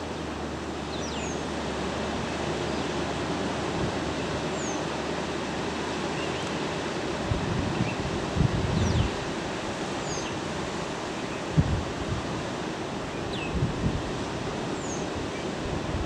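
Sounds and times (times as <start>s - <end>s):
distant surf: 0.0s - 16.0s
wind: 0.0s - 16.0s.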